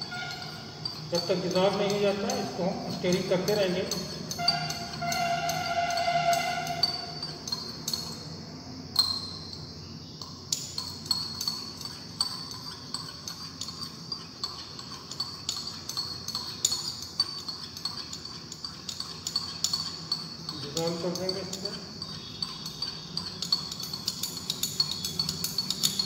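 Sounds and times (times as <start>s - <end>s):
glass rod clinking on beaker: 0.0s - 26.0s.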